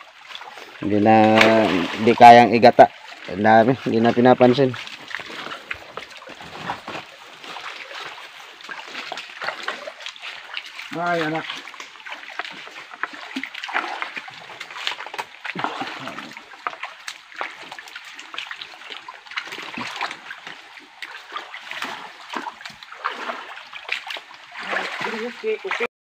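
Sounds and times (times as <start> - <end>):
creek water splashing: 0.0 - 25.9.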